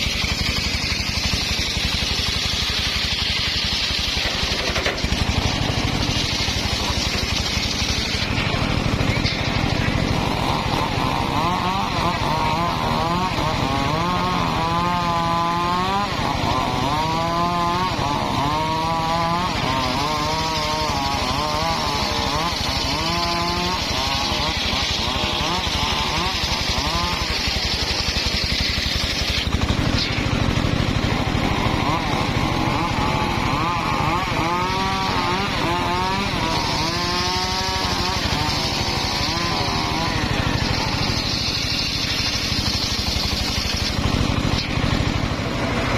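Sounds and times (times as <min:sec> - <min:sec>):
saw blade hissing through wood: 0:00.0 - 0:16.2, 0:16.9 - 0:45.2
sawmill engine labouring: 0:00.0 - 0:45.9.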